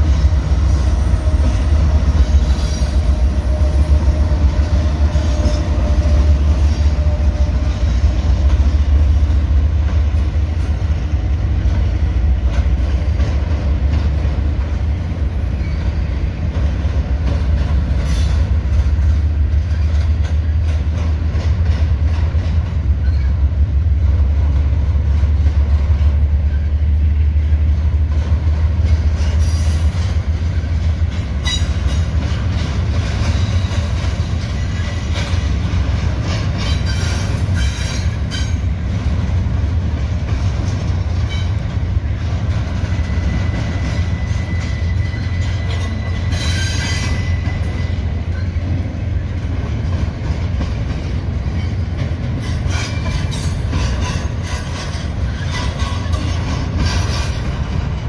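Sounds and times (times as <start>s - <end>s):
freight train rumbling past: 0.0s - 58.0s
sharp clicks of rail cars: 0.0s - 58.0s.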